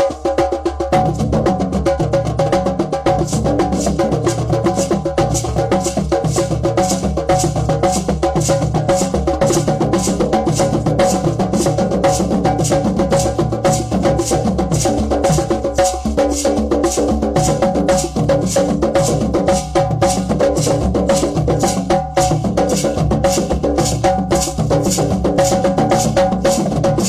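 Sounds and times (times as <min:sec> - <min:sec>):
hand drums playing rhythm: 0:00.0 - 0:27.0.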